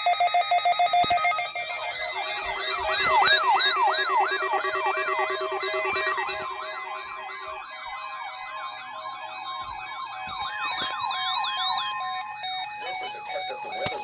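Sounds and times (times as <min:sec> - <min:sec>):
high warning alarm tone: 0:00.0 - 0:14.0
sweeping siren-like tone: 0:00.0 - 0:14.0.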